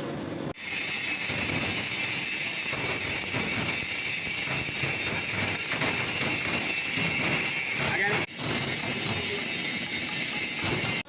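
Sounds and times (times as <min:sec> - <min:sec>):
metalworking hiss and crackle: 0:00.6 - 0:11.0.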